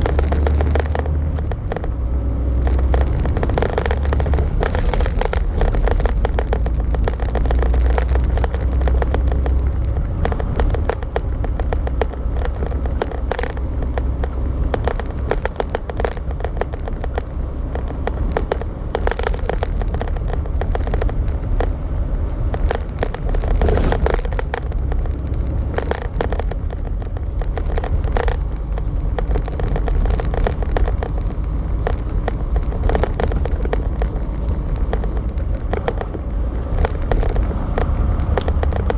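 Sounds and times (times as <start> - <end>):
short clicks and rattles: 0.0 - 38.9
truck engine and road rumble: 0.0 - 38.9.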